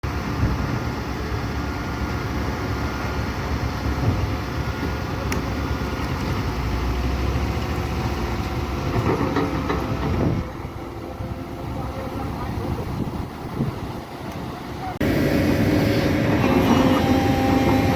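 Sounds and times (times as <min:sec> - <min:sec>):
excavator engine drone: 0:00.0 - 0:17.9.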